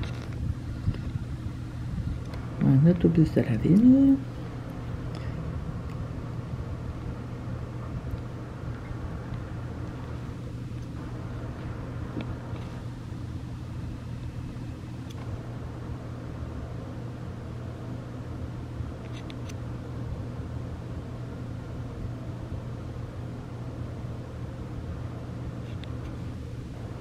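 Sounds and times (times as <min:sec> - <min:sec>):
faint rumble: 0:00.0 - 0:27.0
steady low hum: 0:00.0 - 0:27.0.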